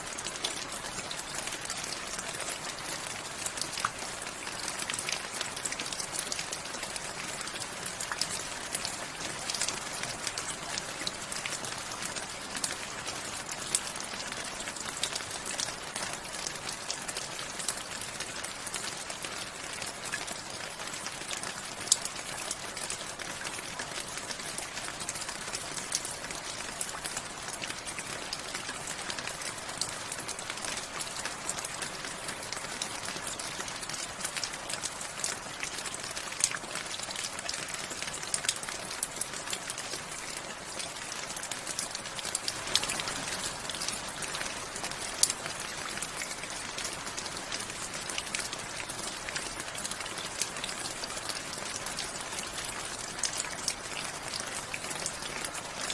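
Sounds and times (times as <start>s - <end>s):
rain falling: 0.0s - 55.9s
water drips and patters: 0.0s - 55.9s.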